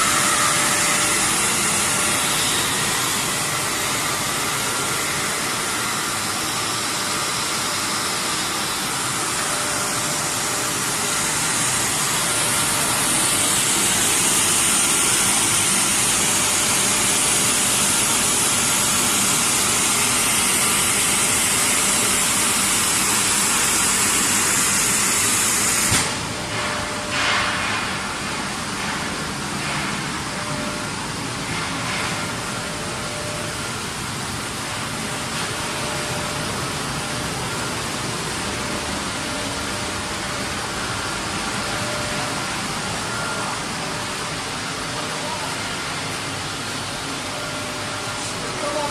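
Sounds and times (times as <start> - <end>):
glass washing machine running: 0.0 - 48.9.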